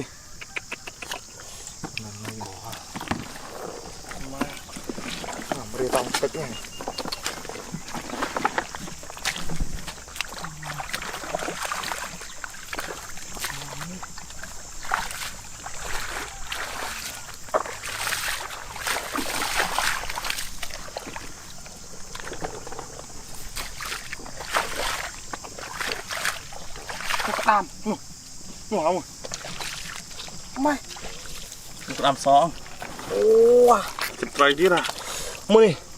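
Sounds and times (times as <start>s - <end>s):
shallow water splashing: 2.2s - 28.0s, 28.8s - 35.9s.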